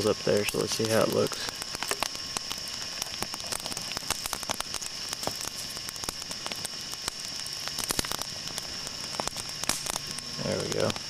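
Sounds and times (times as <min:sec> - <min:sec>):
burning wood hiss: 0:00.0 - 0:11.0
campfire crackling and popping: 0:00.0 - 0:11.0.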